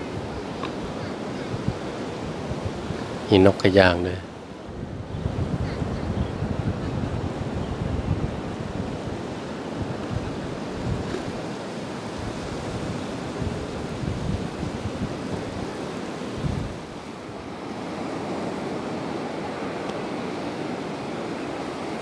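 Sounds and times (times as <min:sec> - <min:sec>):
surf washing onto beach: 0:00.0 - 0:22.0
wind rumbling on microphone: 0:00.0 - 0:22.0.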